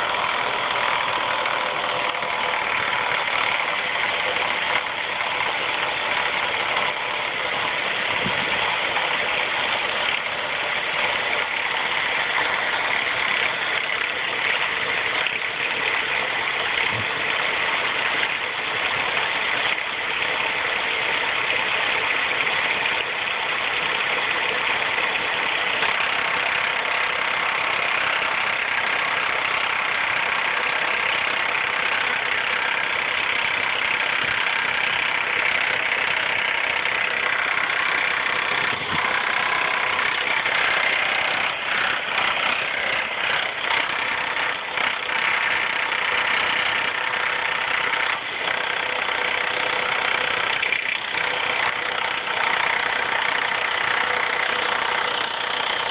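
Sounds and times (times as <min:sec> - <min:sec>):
car engine with timing chain racket: 0:00.0 - 0:55.9.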